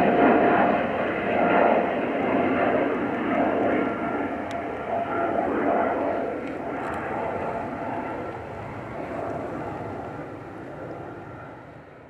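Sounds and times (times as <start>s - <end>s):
jet airliner engines rushing: 0.0s - 12.0s.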